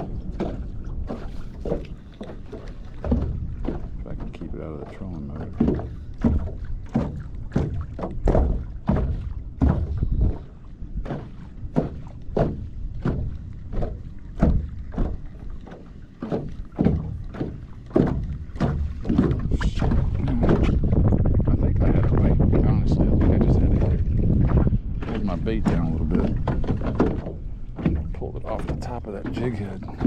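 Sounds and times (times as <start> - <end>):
low rumble of wind and water: 0.0 - 30.0
small waves slapping boat hull: 0.0 - 30.0.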